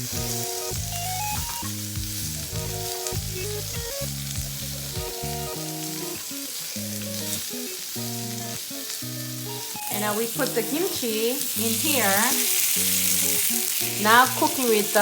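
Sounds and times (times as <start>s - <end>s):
meat sizzling in a skillet: 0.0s - 15.0s
simple background music: 0.0s - 15.0s.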